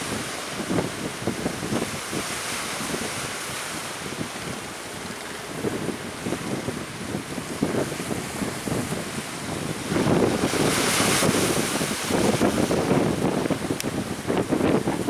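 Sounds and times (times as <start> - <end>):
surf rushing: 0.0 - 15.0
wind buffeting microphone: 0.0 - 15.0.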